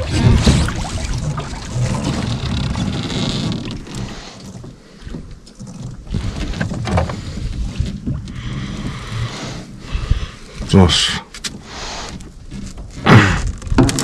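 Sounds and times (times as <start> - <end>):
water sounds: 0.0 - 13.7.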